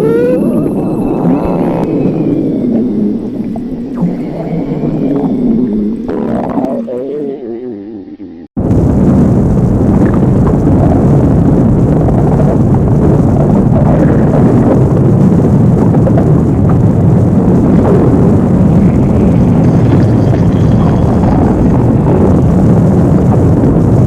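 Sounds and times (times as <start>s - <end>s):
distorted stomach growling: 0.0s - 24.0s.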